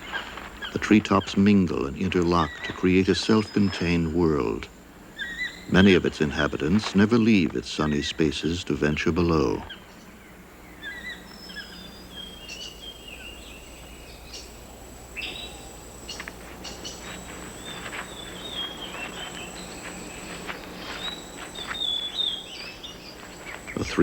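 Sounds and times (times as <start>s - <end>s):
birds chirping and trilling: 0.0s - 24.0s
insect drone: 0.0s - 24.0s.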